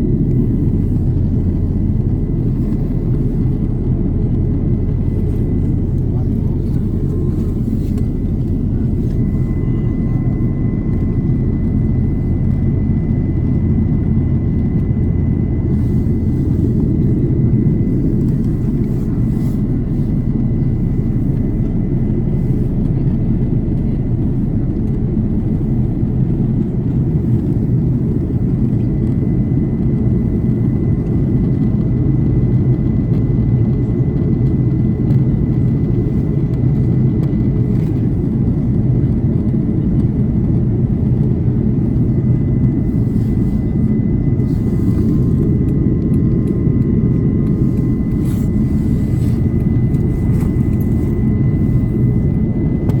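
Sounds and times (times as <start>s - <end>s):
airliner cabin roar: 0.0s - 53.0s.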